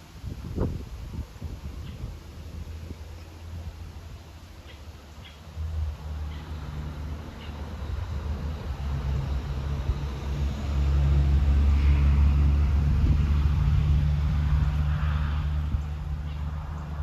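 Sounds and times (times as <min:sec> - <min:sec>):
wind buffeting microphone: 0:00.0 - 0:04.4, 0:05.6 - 0:17.0.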